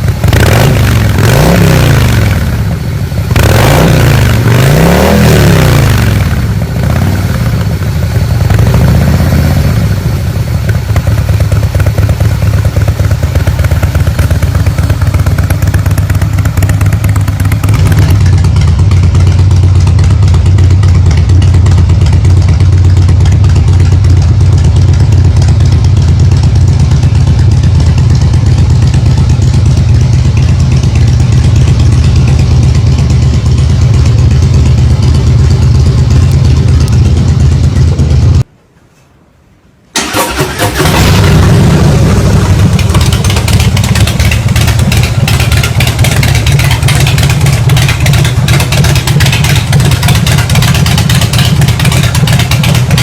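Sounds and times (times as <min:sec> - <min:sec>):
motorcycle engine idling: 0:00.0 - 0:38.5, 0:40.0 - 0:53.0.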